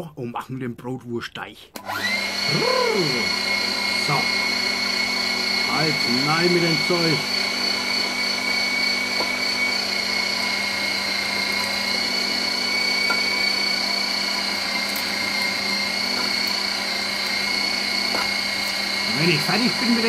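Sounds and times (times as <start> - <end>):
meat grinder motor whine: 1.8 - 20.0.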